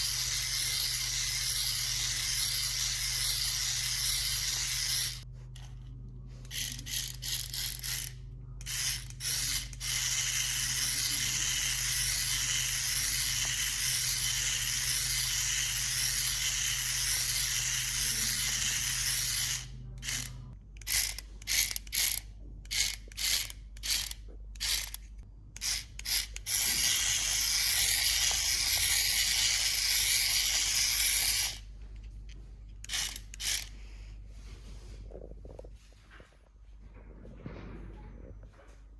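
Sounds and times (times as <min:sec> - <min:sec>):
toy motor whirring: 0:00.0 - 0:31.7, 0:32.8 - 0:33.9.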